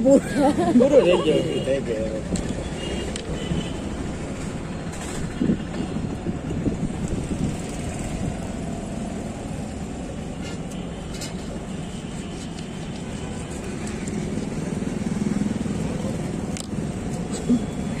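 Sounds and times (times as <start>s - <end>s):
roadside traffic: 0.0s - 18.0s.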